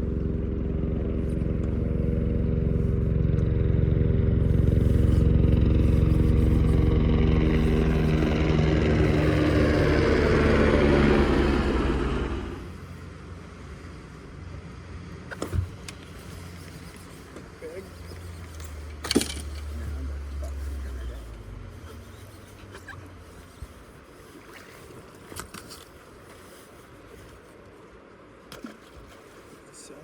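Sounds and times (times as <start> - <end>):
boat motor running: 0.0 - 27.6.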